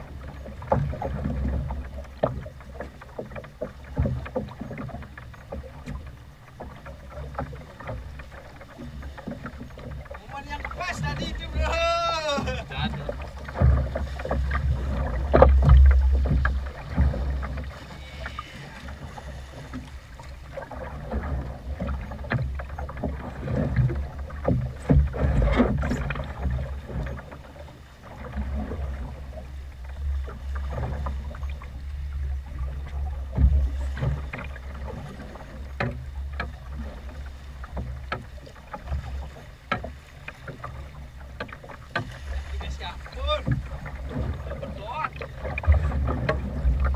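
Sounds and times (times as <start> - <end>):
waves slapping boat hull: 0.0 - 46.9.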